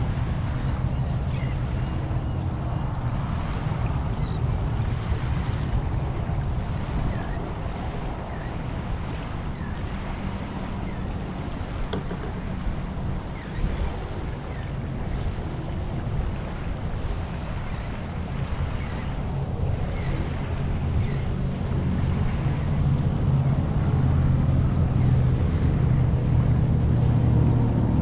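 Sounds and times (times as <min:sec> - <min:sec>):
small waves lapping on sand: 0:00.0 - 0:01.8, 0:02.9 - 0:28.0
wind buffeting microphone: 0:00.0 - 0:28.0.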